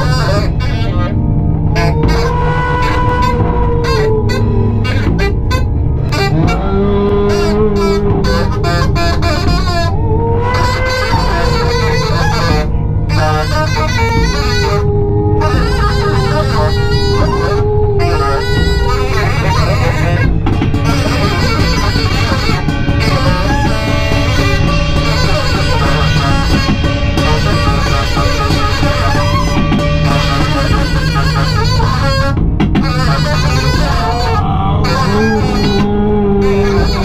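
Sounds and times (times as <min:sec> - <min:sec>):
distorted noise music: 0:00.0 - 0:37.0
droning tones: 0:00.0 - 0:37.0.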